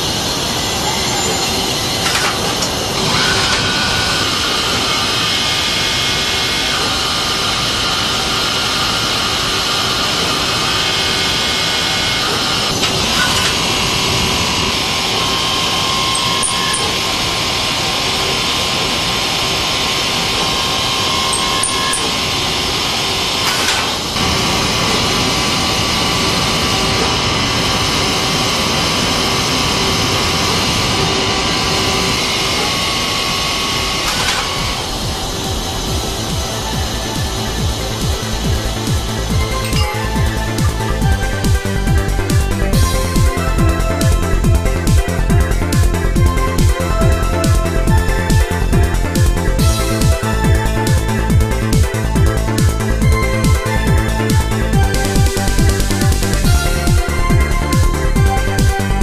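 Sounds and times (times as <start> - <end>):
lathe machining: 0.0 - 59.0.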